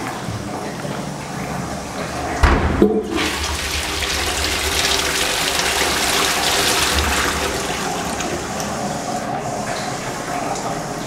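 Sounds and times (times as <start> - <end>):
toilet flushing: 0.0 - 11.0.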